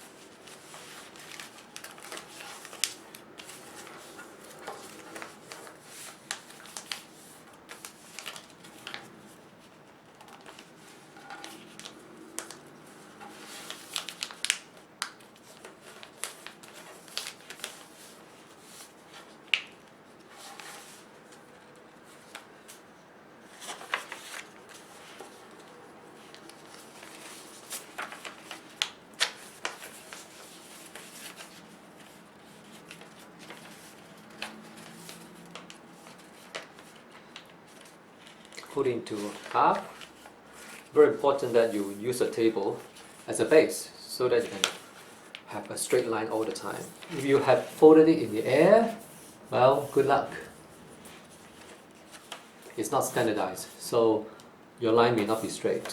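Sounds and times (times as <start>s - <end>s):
paper crinkling and rustling: 0.0s - 53.9s, 55.1s - 55.9s.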